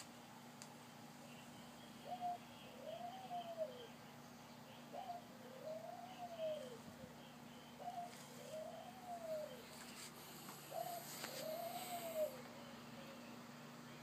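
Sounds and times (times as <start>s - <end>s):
dove cooing: 1.4s - 13.4s.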